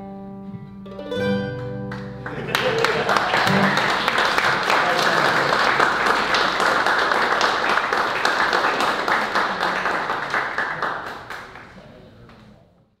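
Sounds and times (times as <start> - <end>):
audience applause: 1.9 - 12.4.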